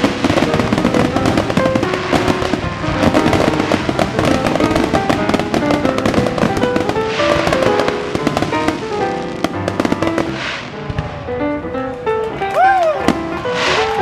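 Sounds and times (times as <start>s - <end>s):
fireworks crackling and popping: 0.0s - 14.0s
music playing: 0.0s - 14.0s.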